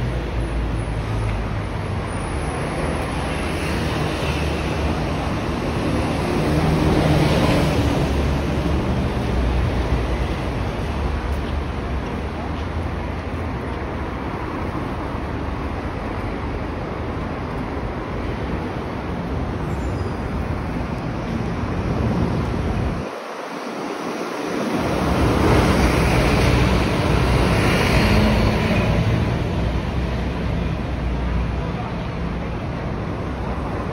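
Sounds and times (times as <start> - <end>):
bus passing close by: 0.0 - 33.9
cars and buses passing: 0.0 - 33.9.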